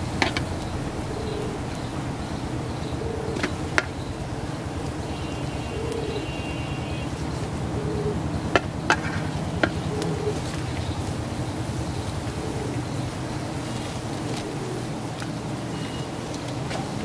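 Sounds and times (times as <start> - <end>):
bees buzzing: 0.0 - 16.2.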